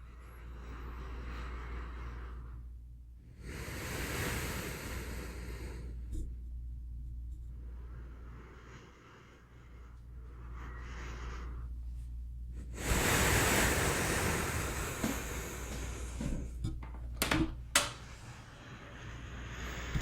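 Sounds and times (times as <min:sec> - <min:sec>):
person breathing slowly: 0:00.0 - 0:06.5, 0:07.4 - 0:17.0, 0:18.0 - 0:20.0.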